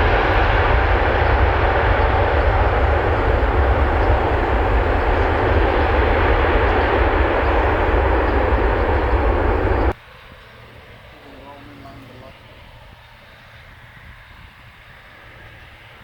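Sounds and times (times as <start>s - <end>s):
jet airliner engines roaring: 0.0s - 16.0s.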